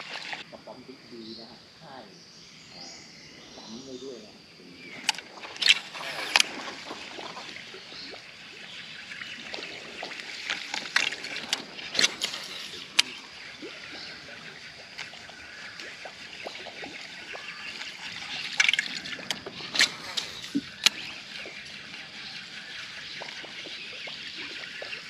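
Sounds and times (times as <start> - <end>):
water trickling and sloshing: 0.0 - 0.5, 3.2 - 25.0.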